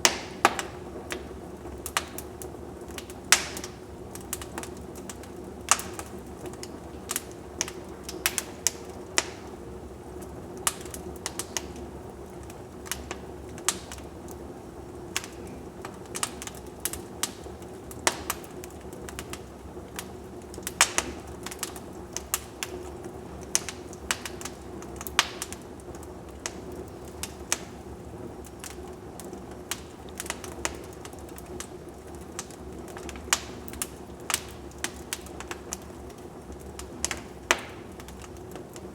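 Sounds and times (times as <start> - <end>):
low rush of burning logs: 0.0 - 38.9
wood fire snapping and popping: 0.0 - 38.9.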